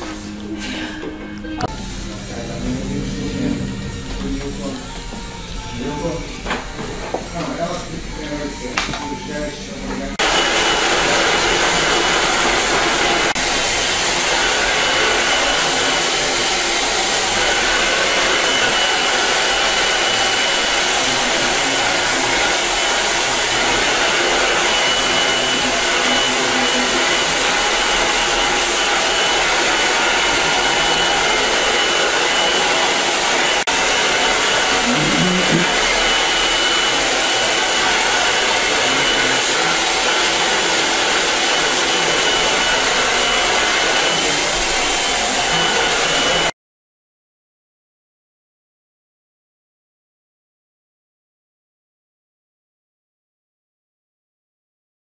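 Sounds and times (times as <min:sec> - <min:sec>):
hair dryer blowing: 0:00.0 - 0:46.6.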